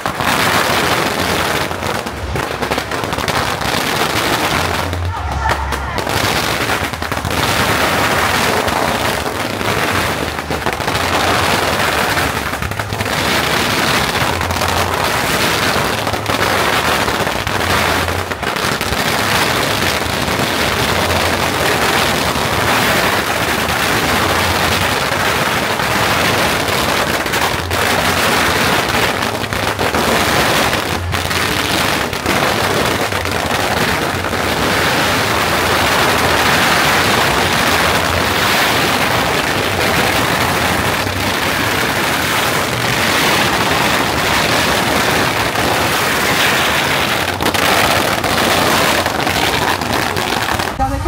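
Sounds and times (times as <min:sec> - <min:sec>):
firecrackers banging and crackling: 0:00.0 - 0:51.0.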